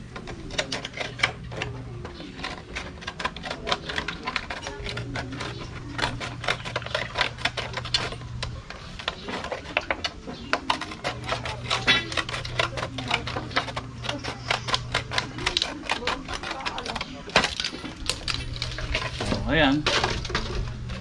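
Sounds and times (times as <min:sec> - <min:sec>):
low steady hum: 0:00.0 - 0:21.0
scissors cutting plastic bottle: 0:00.0 - 0:21.0.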